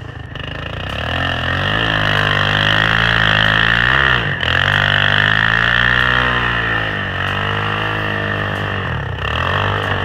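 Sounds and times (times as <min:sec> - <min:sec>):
four-stroke engine under throttle: 0:00.0 - 0:10.0.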